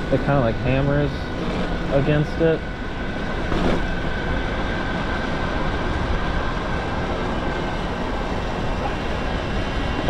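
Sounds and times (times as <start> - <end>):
faint high motor whine: 0.0 - 10.0
wind rushing over microphone: 0.0 - 10.0.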